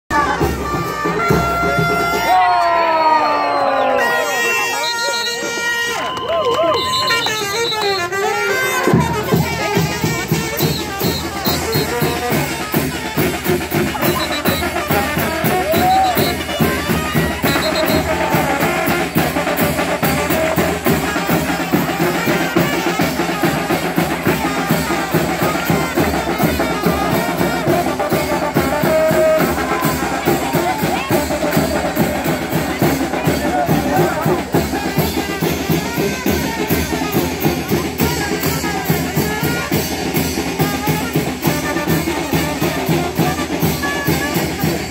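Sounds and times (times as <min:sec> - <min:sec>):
brass band playing: 0:00.1 - 0:44.9
snare and bass drum beat: 0:06.8 - 0:44.9.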